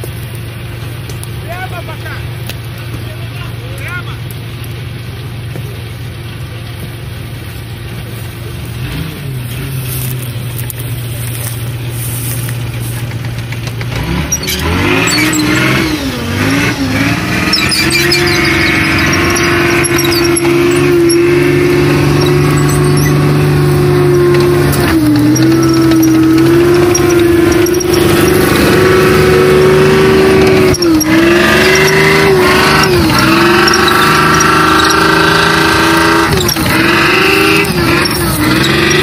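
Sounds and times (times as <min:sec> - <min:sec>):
track noise: 0:00.0 - 0:39.0
tracked vehicle engine: 0:00.0 - 0:39.0.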